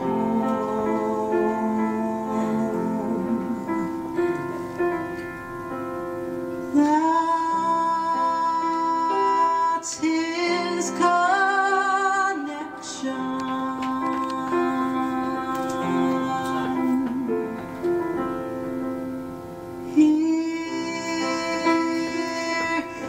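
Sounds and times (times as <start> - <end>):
woman singing: 0.0 - 4.6, 6.6 - 17.8, 19.9 - 23.0
keyboard accompaniment: 0.0 - 23.0.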